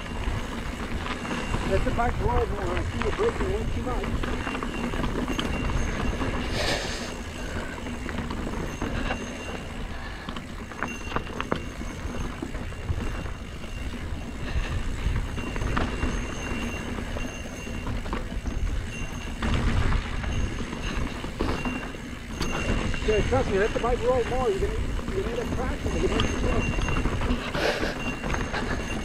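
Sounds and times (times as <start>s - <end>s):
bike clicks and rattles: 0.0s - 29.0s
bike tyre rumble: 0.0s - 29.0s.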